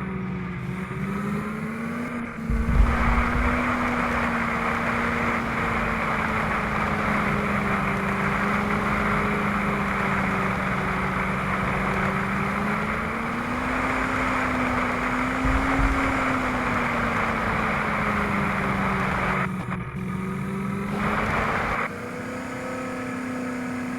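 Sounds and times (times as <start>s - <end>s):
vehicle engine droning: 0.0s - 23.9s.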